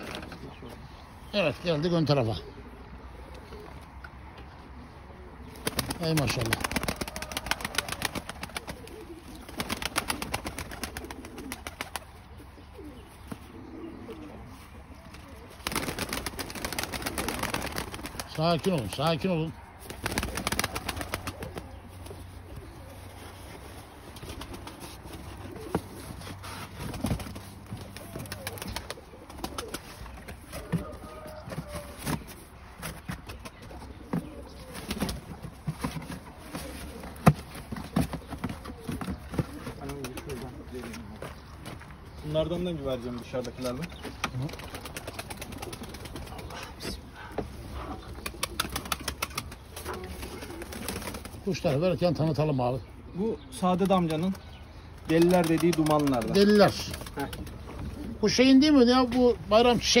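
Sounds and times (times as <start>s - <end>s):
pigeons cooing: 0.0s - 60.0s.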